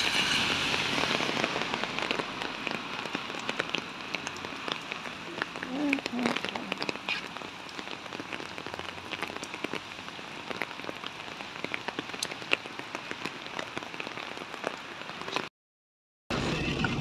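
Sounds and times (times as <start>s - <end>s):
raindrops ticking close by: 0.0s - 15.5s
steady rain falling: 0.0s - 15.5s.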